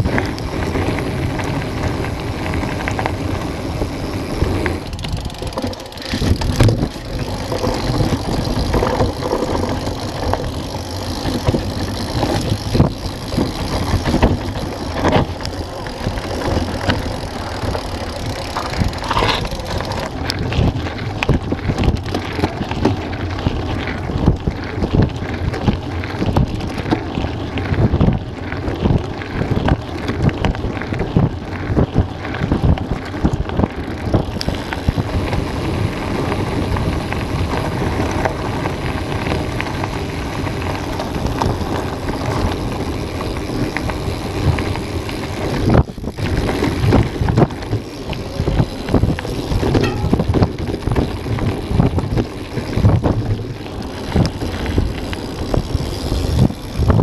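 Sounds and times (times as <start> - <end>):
bike knocks and rattles: 0.0 - 57.0
bike rolling over gravel: 0.0 - 57.0
wind buffeting microphone: 0.0 - 57.0.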